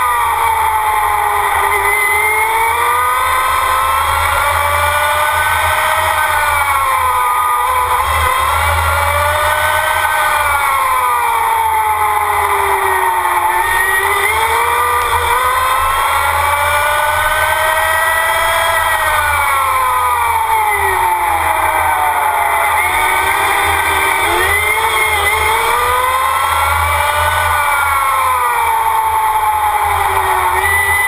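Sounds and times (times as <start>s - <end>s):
electric car drive whine: 0.0s - 31.0s.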